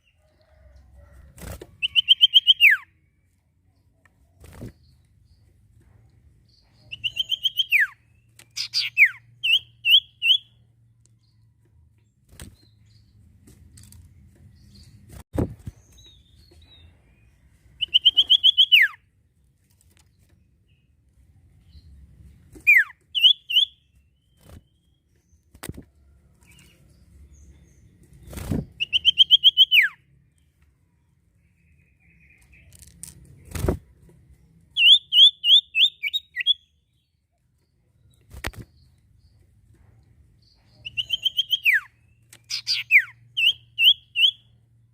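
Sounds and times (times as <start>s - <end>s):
bird singing: 1.8s - 5.6s, 6.4s - 13.3s, 15.8s - 19.2s, 21.6s - 33.0s, 34.4s - 44.9s.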